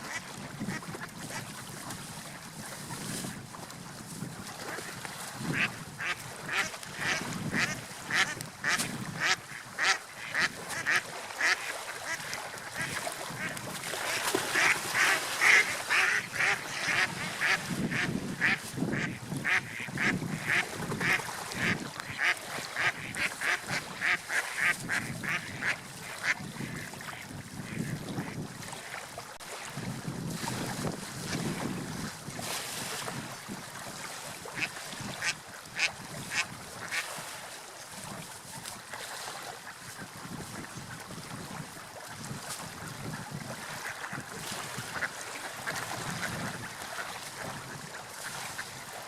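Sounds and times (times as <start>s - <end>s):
surf: 0.0s - 49.0s
wind: 0.0s - 49.0s.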